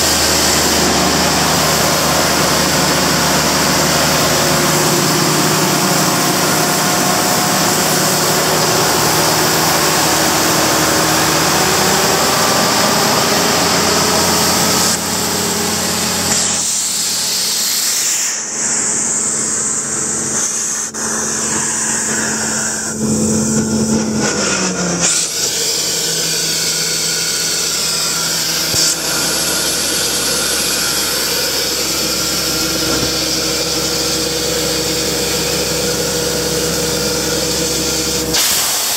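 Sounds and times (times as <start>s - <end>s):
air compressor hiss: 0.0s - 23.2s, 25.0s - 38.9s
diesel engine drone: 0.0s - 38.9s.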